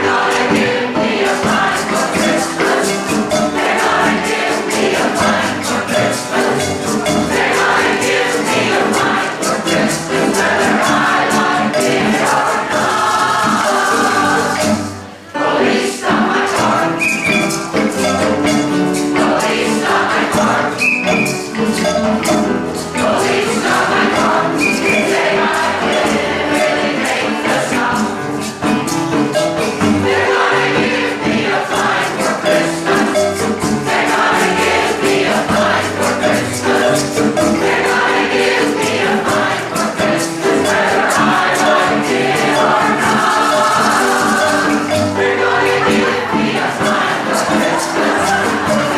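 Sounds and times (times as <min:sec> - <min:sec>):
choir singing upbeat song: 0:00.0 - 0:48.9
instrumental accompaniment: 0:00.0 - 0:48.9
steady percussive beat: 0:00.0 - 0:48.9.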